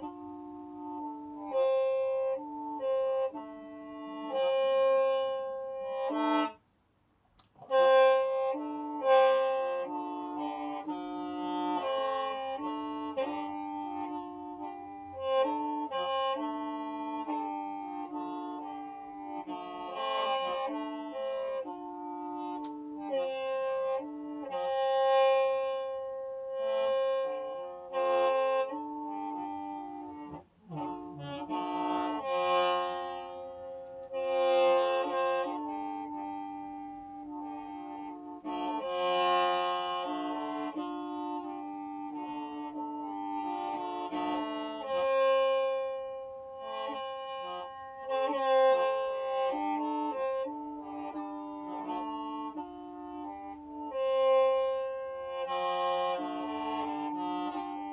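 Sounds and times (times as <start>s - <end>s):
bamboo mouth organ playing: 0.0s - 6.6s, 7.4s - 57.9s.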